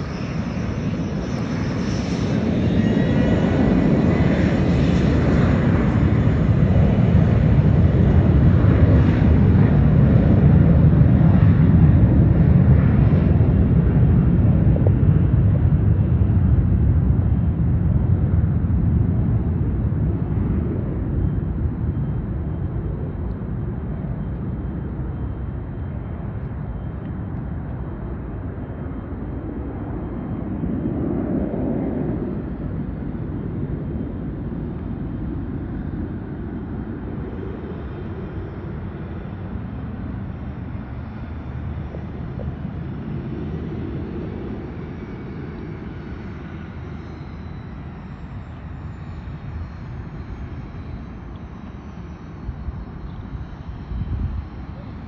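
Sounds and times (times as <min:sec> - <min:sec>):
distant jet engines rumbling: 0:00.0 - 0:55.0
faint high jet whine: 0:00.0 - 0:55.0.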